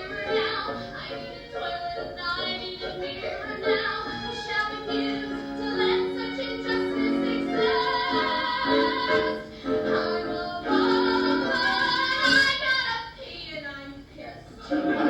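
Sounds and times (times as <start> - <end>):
accompanying music: 0.0 - 13.0
voices singing: 0.0 - 13.3, 14.6 - 15.0.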